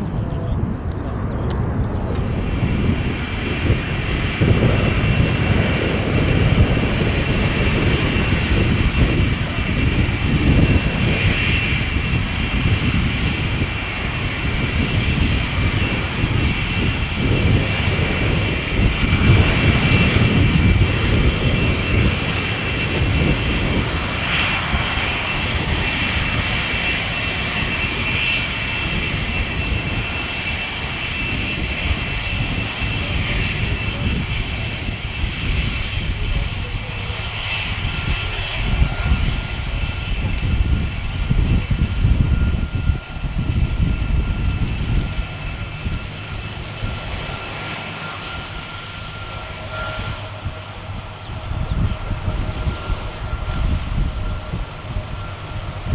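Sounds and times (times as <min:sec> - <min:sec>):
jet turbine whine: 0:00.0 - 0:55.9
low jet engine rumble: 0:00.0 - 0:55.9.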